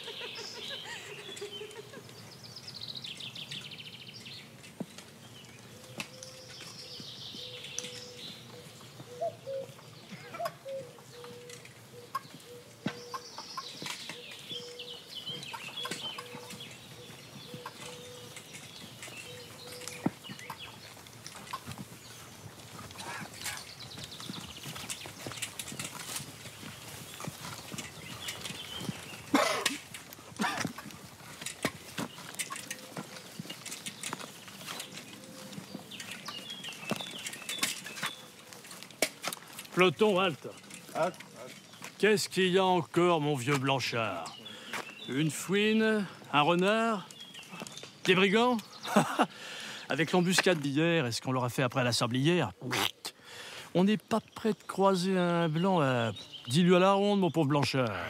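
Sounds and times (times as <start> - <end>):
clicks and knocks of marching gear: 0.0 - 52.1
birds calling: 0.0 - 58.0.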